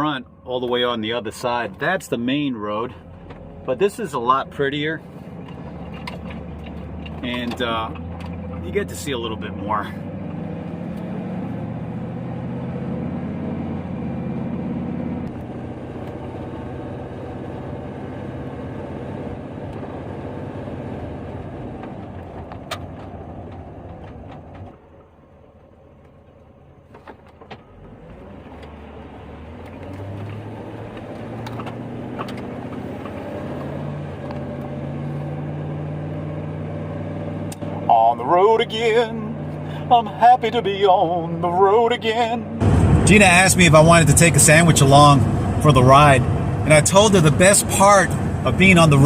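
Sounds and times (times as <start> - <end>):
road noise: 0.0 - 49.0
van engine hum: 0.0 - 49.0.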